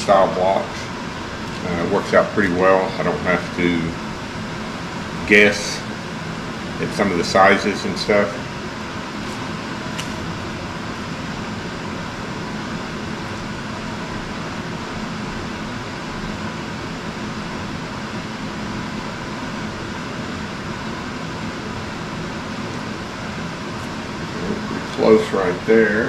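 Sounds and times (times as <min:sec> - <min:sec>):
ventilation unit humming: 0:00.0 - 0:26.0.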